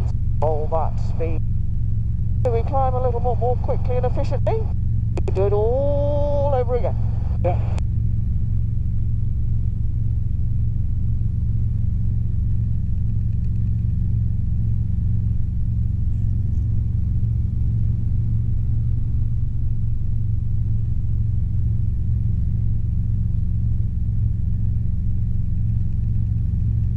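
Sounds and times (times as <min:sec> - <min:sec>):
helicopter engine and rotors drone: 0:00.0 - 0:26.9.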